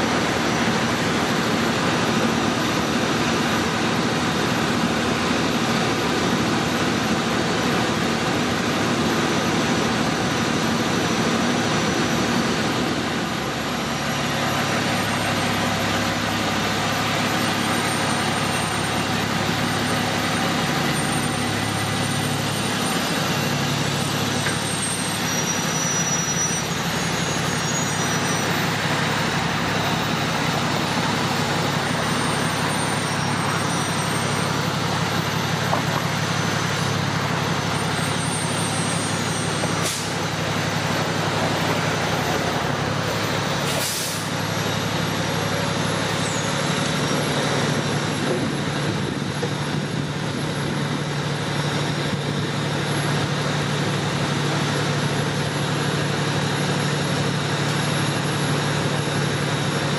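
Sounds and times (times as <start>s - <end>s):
fire engine diesel engine running: 0.0s - 59.9s.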